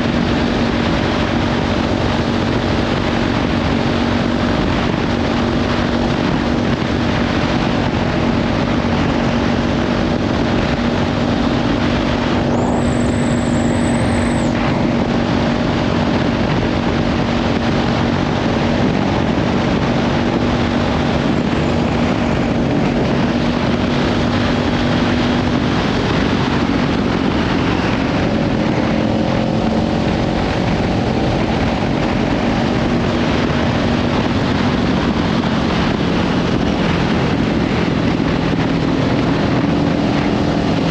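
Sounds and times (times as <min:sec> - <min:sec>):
motorcycle engine cruising: 0:00.0 - 0:40.9
wind rushing over microphone: 0:00.0 - 0:40.9.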